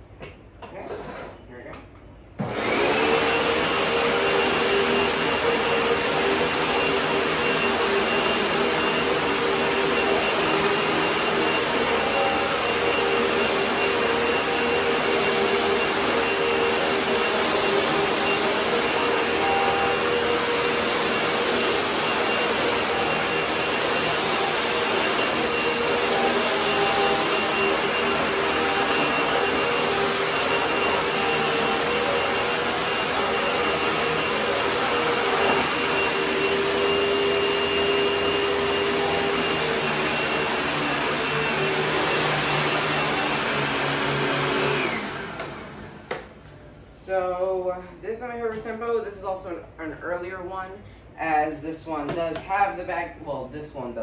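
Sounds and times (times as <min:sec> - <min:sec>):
vacuum cleaner running: 0:02.4 - 0:47.6.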